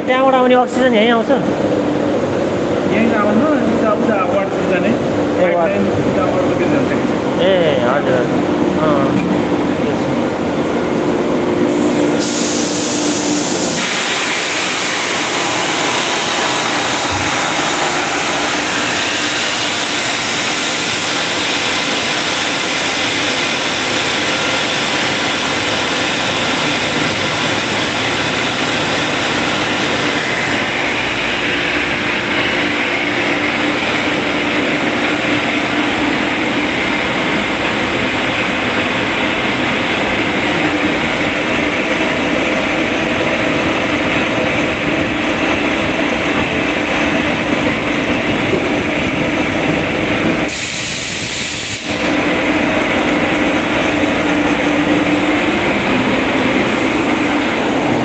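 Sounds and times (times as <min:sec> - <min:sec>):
air compressor running: 0:00.0 - 0:58.0.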